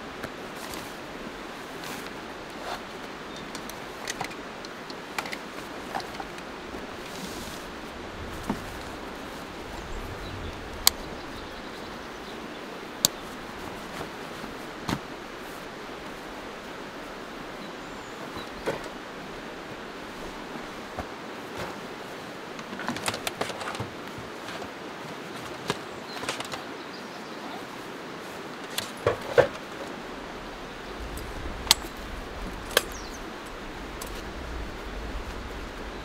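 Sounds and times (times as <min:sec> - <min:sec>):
river rushing: 0:00.0 - 0:22.7, 0:27.6 - 0:36.0.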